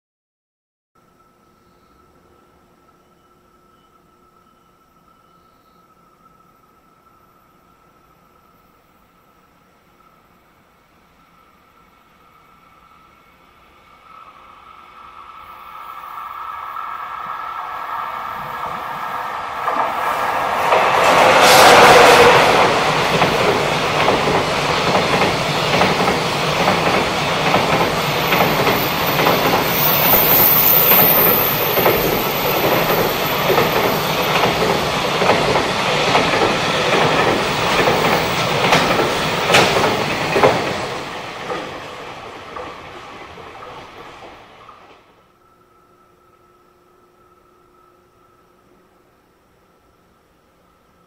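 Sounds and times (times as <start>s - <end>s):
electric locomotive passing: 1.0s - 51.0s.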